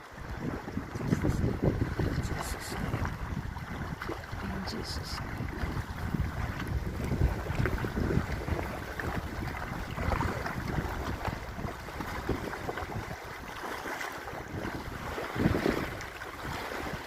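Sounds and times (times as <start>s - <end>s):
waves lapping around kayak: 0.0s - 17.0s
wind buffeting microphone: 0.0s - 17.0s.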